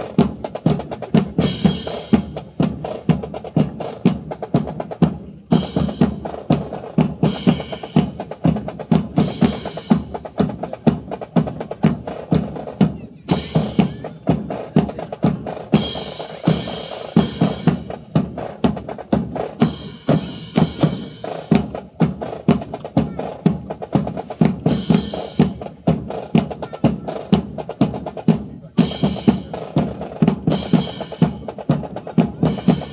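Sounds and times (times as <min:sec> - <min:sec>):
marching snare and bass drums: 0:00.0 - 0:32.9.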